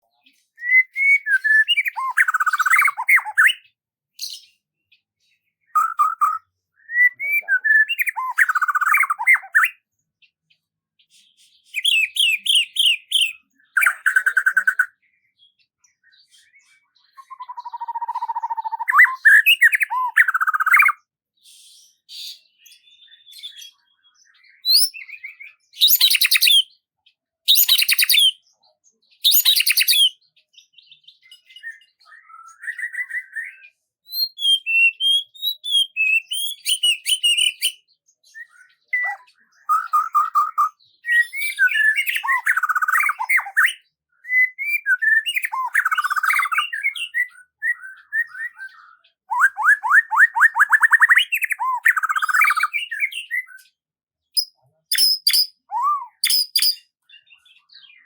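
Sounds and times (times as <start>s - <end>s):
songbird singing: 0.0s - 9.9s, 11.1s - 21.1s, 22.0s - 26.9s, 27.5s - 28.5s, 29.2s - 58.0s.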